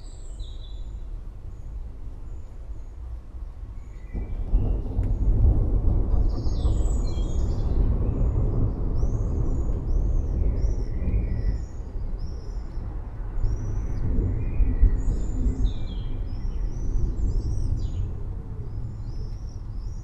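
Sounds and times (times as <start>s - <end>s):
loud low rumble: 3.7s - 20.0s.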